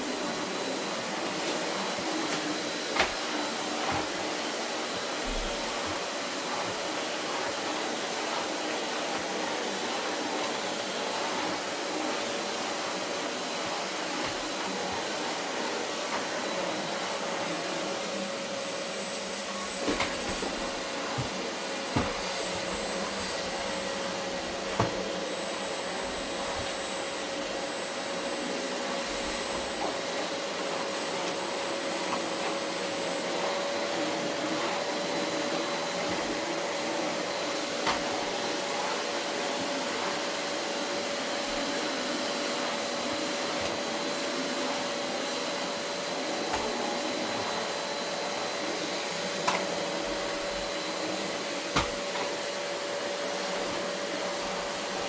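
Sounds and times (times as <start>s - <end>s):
vacuum cleaner on carpet: 0.0s - 55.0s.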